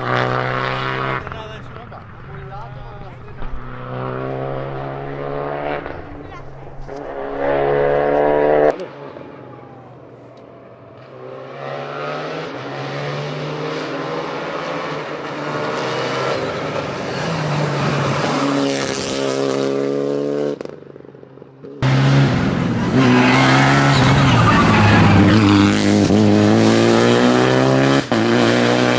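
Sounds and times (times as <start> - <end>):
rally car engine passing: 0.0 - 21.1, 21.8 - 28.9.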